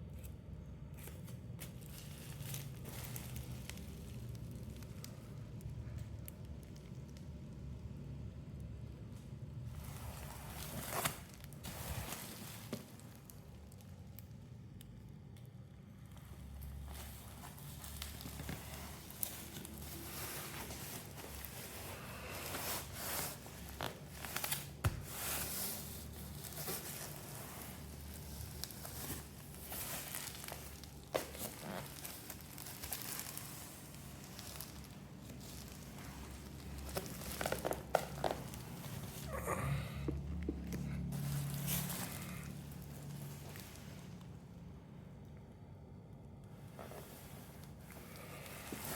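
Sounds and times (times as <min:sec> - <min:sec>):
wrapping crinkling and rustling: 0:00.0 - 0:44.6, 0:46.5 - 0:48.9.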